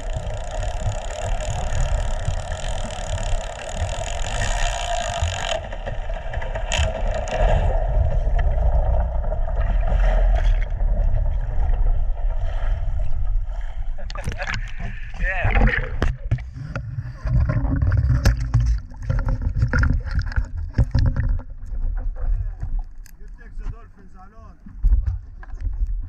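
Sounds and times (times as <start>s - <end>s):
low rumble of water: 0.0s - 26.0s
underwater boat engine hum: 0.0s - 26.0s.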